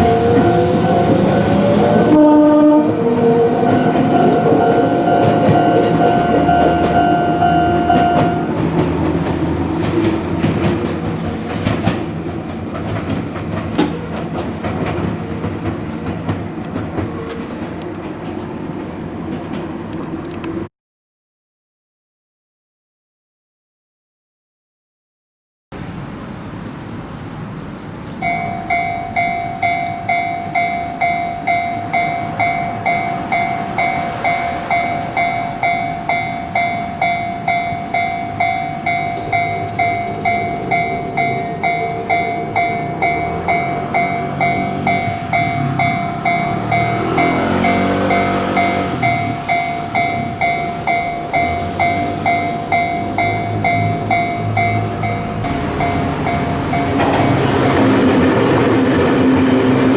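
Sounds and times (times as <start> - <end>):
level crossing warning signal: 0.0 - 17.5, 28.2 - 59.9
train rumbling past: 0.0 - 20.7, 25.8 - 59.9.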